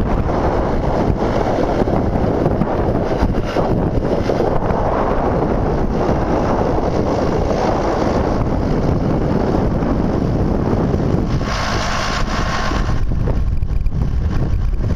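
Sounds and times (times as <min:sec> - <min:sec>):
tractor diesel engine running: 0:00.0 - 0:14.9
wind noise on microphone: 0:00.0 - 0:14.9.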